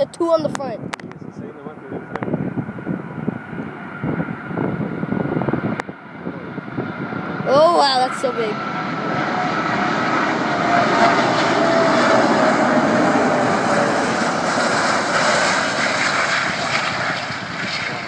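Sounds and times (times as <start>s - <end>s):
jet engines roaring: 0.0s - 18.0s
engine whine falling in pitch: 0.8s - 18.0s.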